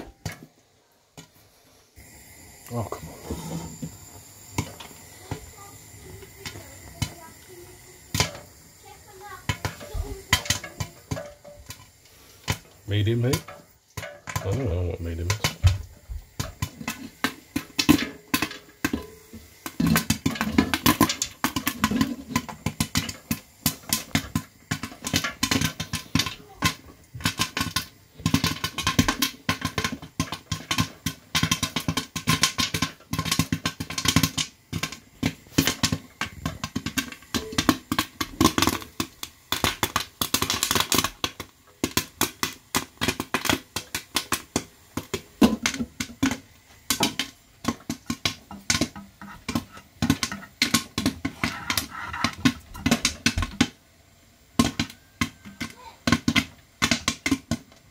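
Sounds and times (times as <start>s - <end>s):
popcorn popping in covered pan: 0.0s - 57.9s.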